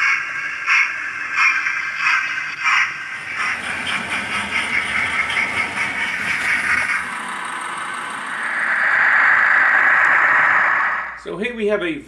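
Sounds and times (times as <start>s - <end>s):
model train wheels rumbling on track: 0.0s - 11.0s.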